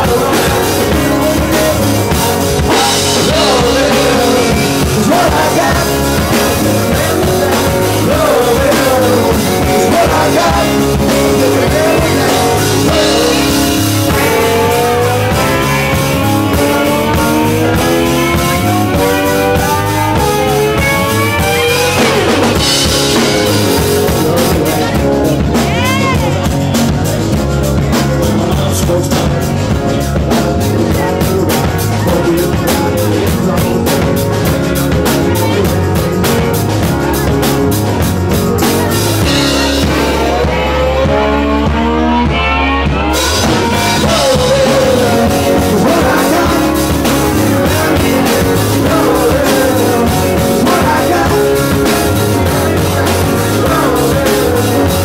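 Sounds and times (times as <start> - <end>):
sliding guitar notes: 0.0 - 28.6, 29.3 - 55.0
live rock band playing: 0.0 - 55.0.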